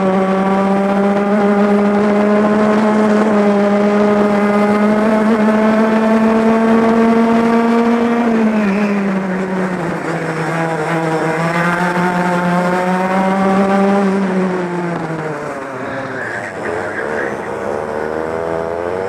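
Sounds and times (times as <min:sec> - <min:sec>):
kart engine at high revs: 0:00.0 - 0:19.0.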